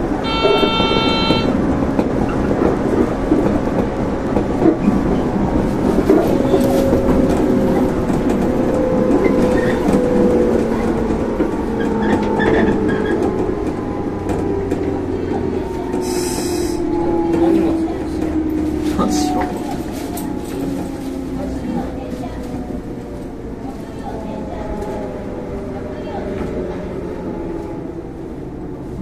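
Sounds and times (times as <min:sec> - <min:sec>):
wheels clacking on rail joints: 0:00.0 - 0:27.5.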